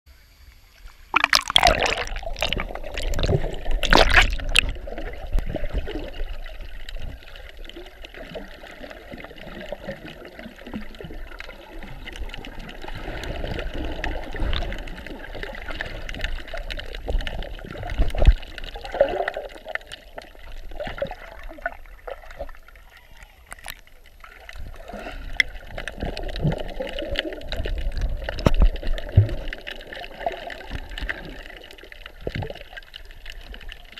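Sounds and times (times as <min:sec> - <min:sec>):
water splashing: 0:00.6 - 0:33.9
muffled underwater gurgling: 0:01.1 - 0:32.7.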